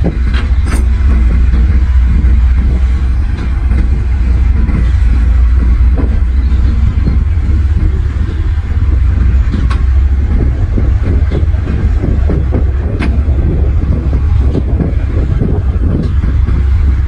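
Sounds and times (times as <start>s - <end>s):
bulldozer diesel engine running: 0.0s - 17.0s
metal clanks and rattles: 0.0s - 17.0s.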